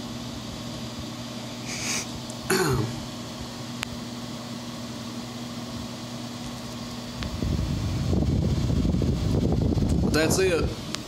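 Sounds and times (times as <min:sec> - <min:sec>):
cooling fan humming: 0:00.0 - 0:11.0.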